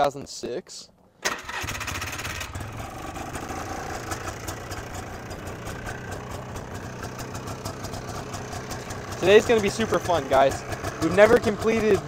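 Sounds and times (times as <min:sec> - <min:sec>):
two-stroke engine idling: 0:01.3 - 0:12.0.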